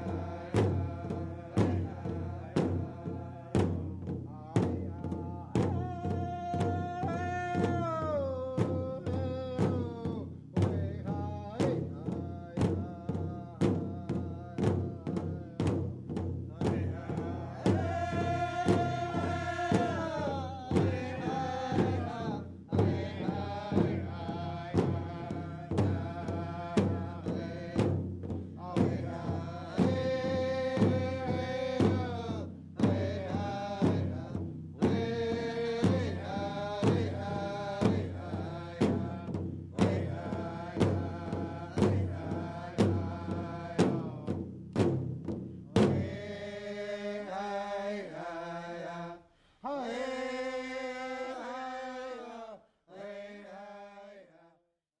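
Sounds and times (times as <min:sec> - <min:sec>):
person chanting: 0:00.0 - 0:15.6, 0:16.7 - 0:28.0, 0:28.6 - 0:44.3, 0:45.8 - 0:54.5
steady drum beat: 0:00.0 - 0:47.4.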